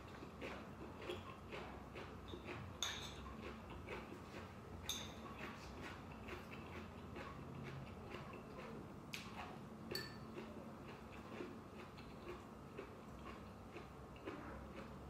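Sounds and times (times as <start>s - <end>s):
person eating noodles: 0.0s - 15.0s.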